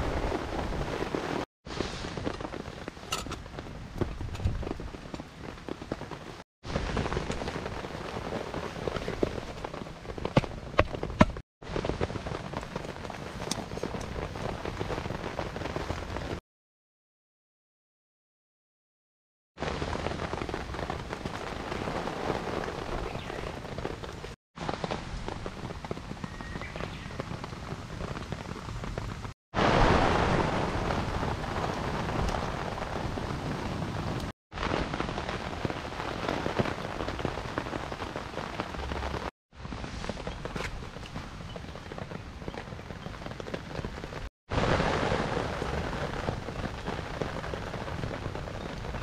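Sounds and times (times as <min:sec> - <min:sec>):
rain pattering: 0:00.0 - 0:16.4, 0:19.6 - 0:49.0
wood fire crackling: 0:00.0 - 0:16.4, 0:19.6 - 0:26.2, 0:27.1 - 0:49.0.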